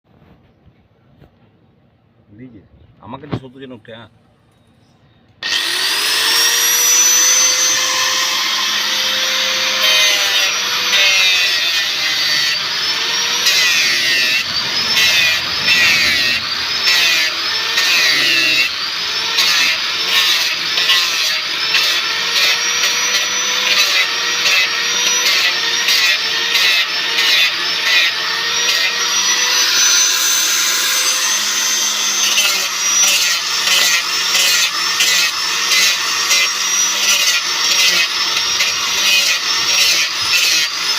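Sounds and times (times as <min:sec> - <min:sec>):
cutter rasping on wood: 0:05.4 - 0:40.9
power tool motor whine: 0:05.4 - 0:40.9.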